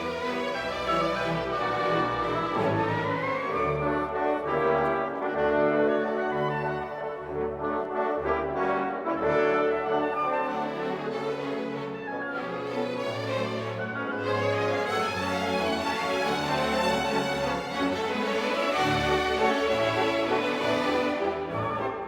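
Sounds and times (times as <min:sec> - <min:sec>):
orchestral brass music: 0:00.0 - 0:22.0.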